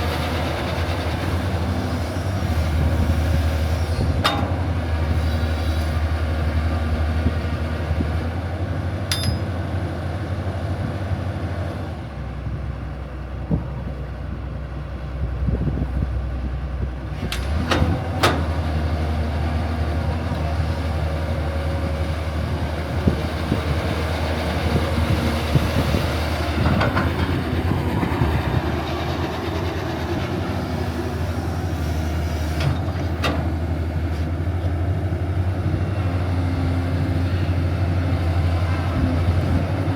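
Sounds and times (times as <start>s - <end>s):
low engine-like rumble: 0.0s - 39.9s.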